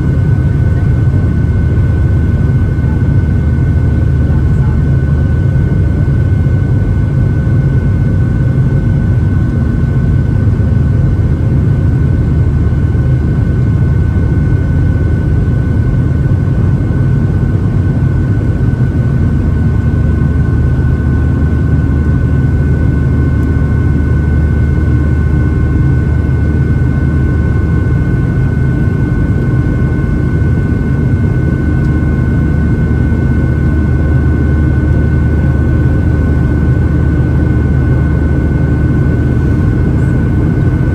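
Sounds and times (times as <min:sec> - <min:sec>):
jet engine cabin rumble: 0:00.0 - 0:40.9
steady high whine: 0:00.0 - 0:40.9.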